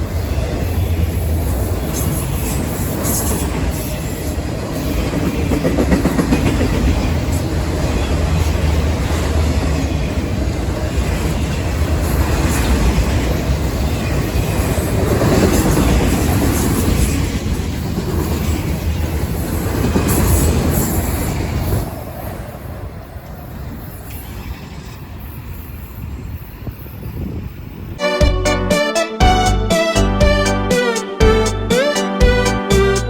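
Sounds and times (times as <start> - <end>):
train rumbling past: 0.0 - 28.6.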